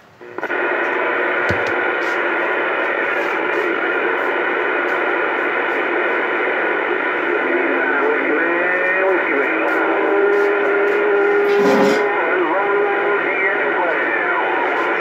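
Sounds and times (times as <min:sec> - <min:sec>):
radio static hiss: 0:00.2 - 0:15.0.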